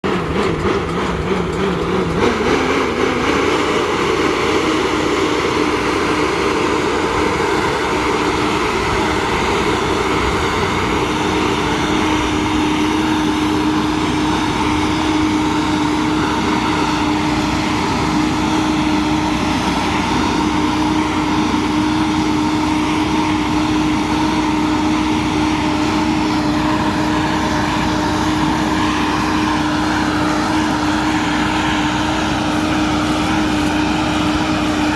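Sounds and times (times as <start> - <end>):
sprayer fan droning: 0.0 - 34.9.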